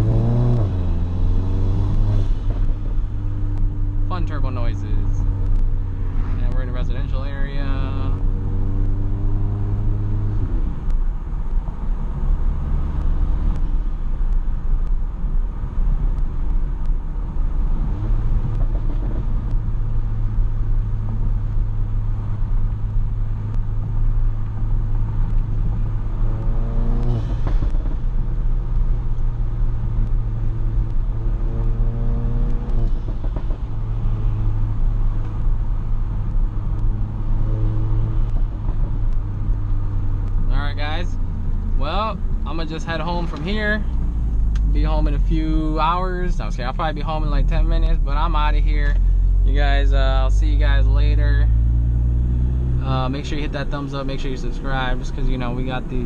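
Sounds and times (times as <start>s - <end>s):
car engine hum from inside: 0.0s - 56.0s.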